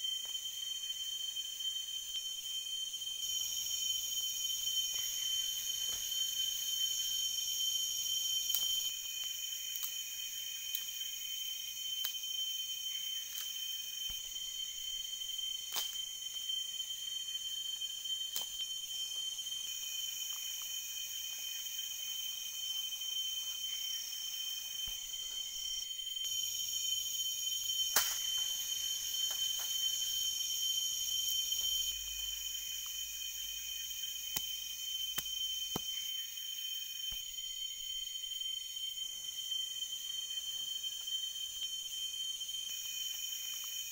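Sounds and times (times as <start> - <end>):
insects calling: 0.0 - 43.9.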